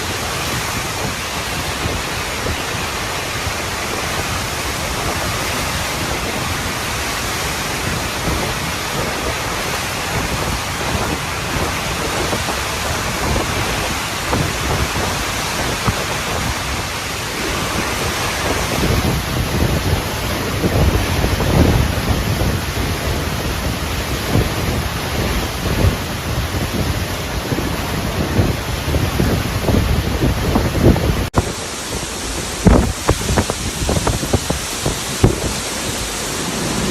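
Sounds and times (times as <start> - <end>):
driving rain: 0.0 - 36.9
hurricane wind: 0.0 - 36.9.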